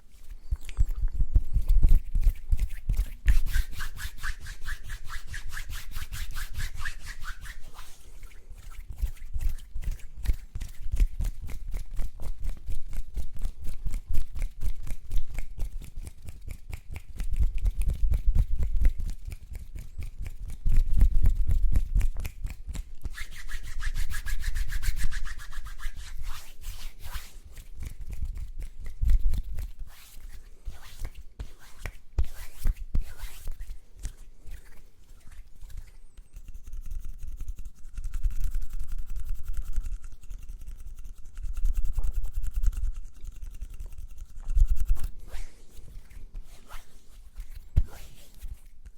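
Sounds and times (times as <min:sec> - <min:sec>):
hands rubbing on microphone: 0:00.0 - 0:48.9.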